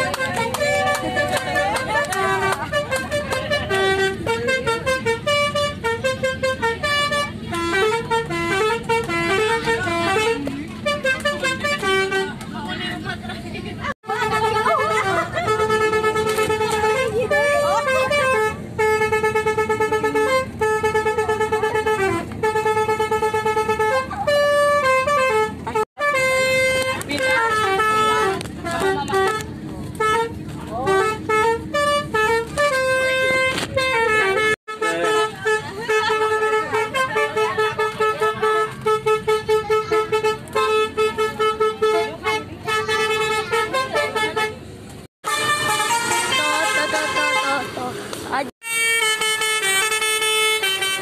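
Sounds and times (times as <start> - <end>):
musical air horns playing tune: 0.0 - 12.3, 14.0 - 48.0, 48.6 - 51.0.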